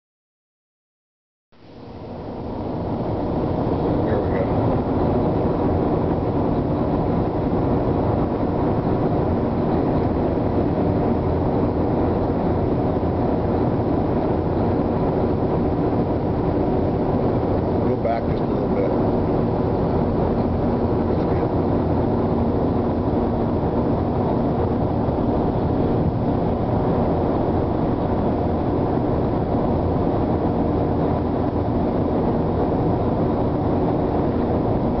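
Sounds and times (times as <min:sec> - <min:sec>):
faint steady hum: 0:01.6 - 0:35.0
truck engine and road noise: 0:01.6 - 0:35.0.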